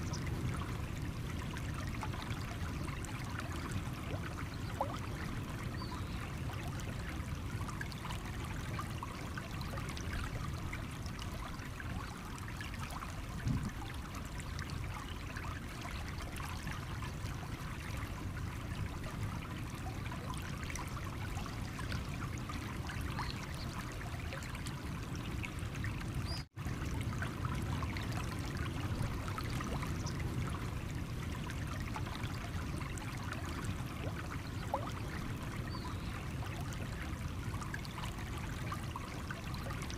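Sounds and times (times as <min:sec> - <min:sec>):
stream water over stones: 0:00.0 - 0:39.9.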